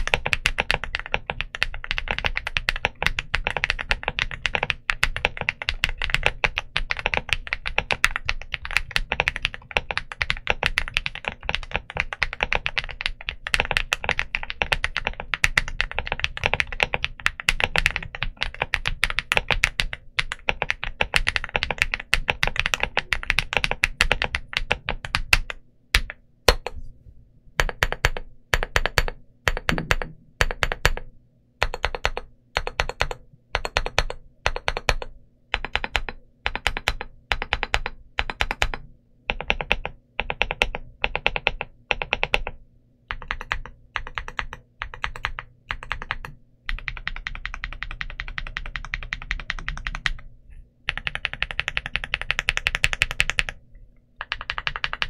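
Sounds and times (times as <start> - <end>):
mechanical keyboard typing: 0.0 - 26.8, 27.6 - 50.3, 50.9 - 53.6, 54.2 - 55.0.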